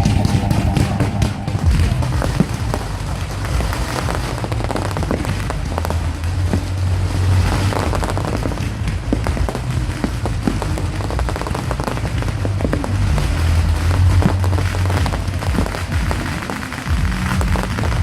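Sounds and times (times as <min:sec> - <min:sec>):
fireworks bangs and crackling: 0:00.0 - 0:18.0
steady low hum: 0:00.0 - 0:18.0.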